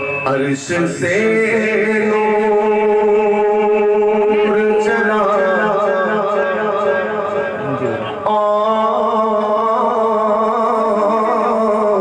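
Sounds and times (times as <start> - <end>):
man singing: 0.0 - 12.0.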